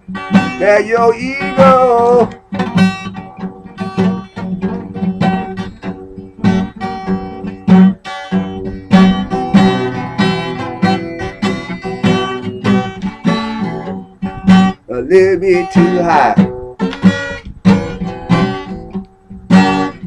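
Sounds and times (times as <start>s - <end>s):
blues guitar playing: 0.0s - 20.0s.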